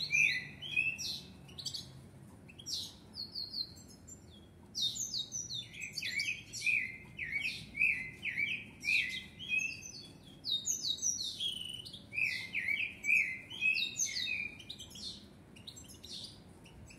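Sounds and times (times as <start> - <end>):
blackbird singing: 0.0 - 16.9.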